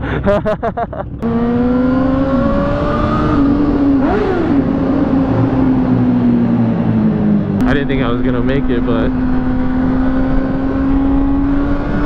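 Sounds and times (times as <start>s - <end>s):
wind rush on microphone: 1.8s - 12.0s.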